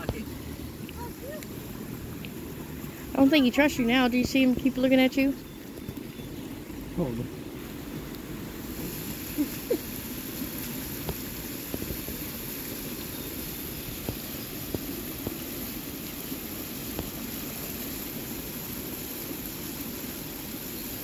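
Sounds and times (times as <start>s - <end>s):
creek flowing over rocks: 0.0s - 21.0s.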